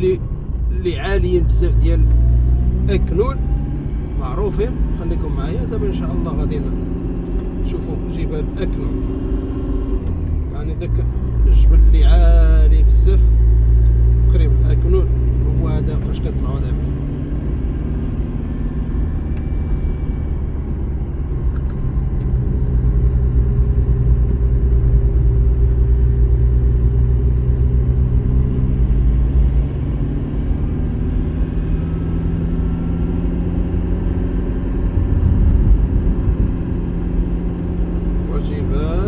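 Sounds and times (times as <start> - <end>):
car engine droning: 0.0 - 39.0
road noise: 0.0 - 39.0.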